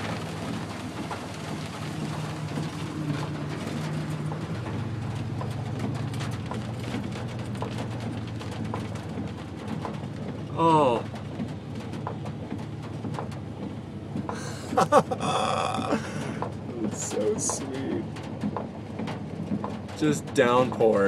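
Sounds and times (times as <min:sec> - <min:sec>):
low hum of car: 0:00.0 - 0:21.0
rain pattering on car roof: 0:00.0 - 0:21.0.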